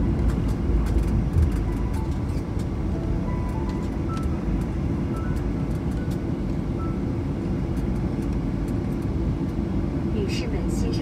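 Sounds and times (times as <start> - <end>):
engines and wheels rumbling: 0.0 - 11.0.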